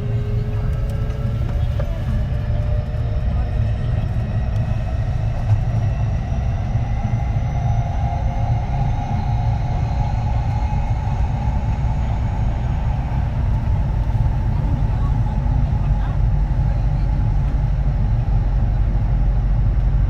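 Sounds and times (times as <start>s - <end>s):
train wheels rumbling on rail: 0.0s - 7.1s, 9.9s - 20.0s.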